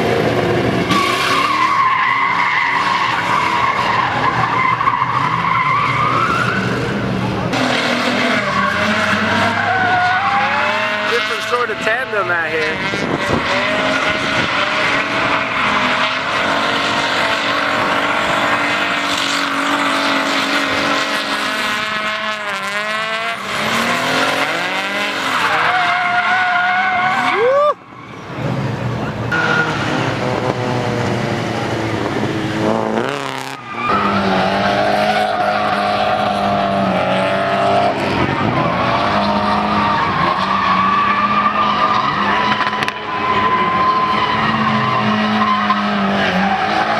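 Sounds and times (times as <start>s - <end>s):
car engines revving: 0.0s - 46.9s
tires squealing and skidding: 0.0s - 46.9s.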